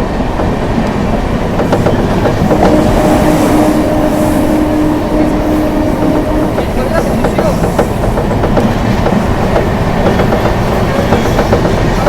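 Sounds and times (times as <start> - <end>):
train wheels clattering on track: 0.0 - 12.0.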